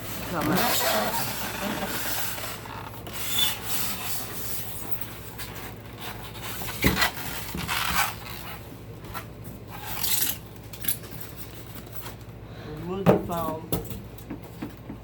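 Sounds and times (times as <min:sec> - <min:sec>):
box packaging scraping: 0:00.0 - 0:12.2.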